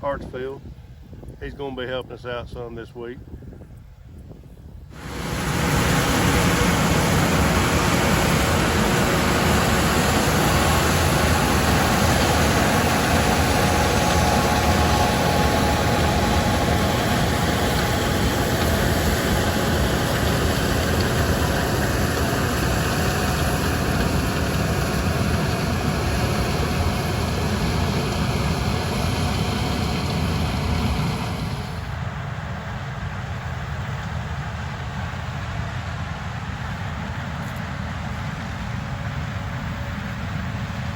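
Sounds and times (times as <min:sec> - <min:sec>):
heavy harvest machinery running: 0:04.9 - 0:40.9.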